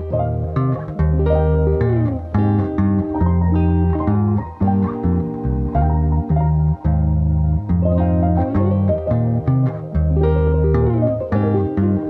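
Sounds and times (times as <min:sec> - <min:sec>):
bass line: 0:00.0 - 0:12.0
plucked-string melody: 0:00.0 - 0:12.0.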